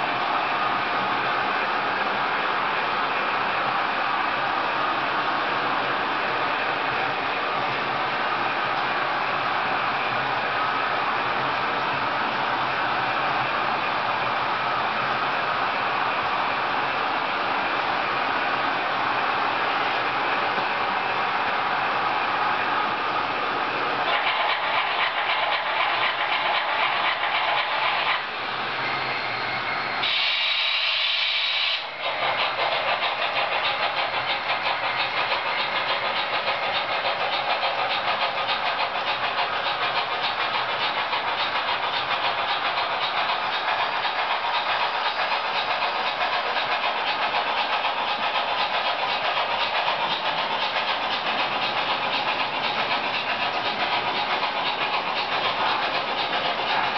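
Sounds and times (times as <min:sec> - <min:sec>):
model trains running on track: 0:00.0 - 0:56.9.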